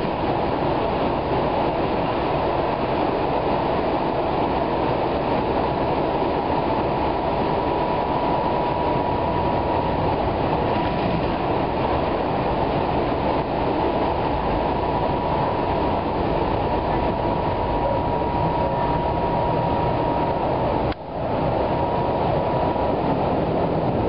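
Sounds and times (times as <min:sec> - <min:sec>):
faint steady whine: 0:00.0 - 0:24.0
light-rail car rumbling on track: 0:00.0 - 0:24.0.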